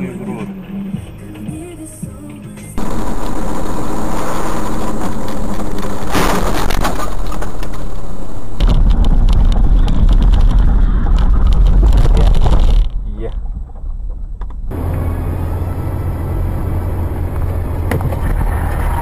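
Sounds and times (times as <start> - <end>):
car road and engine noise: 0.0 - 19.0
heavy low rumble: 2.8 - 19.0.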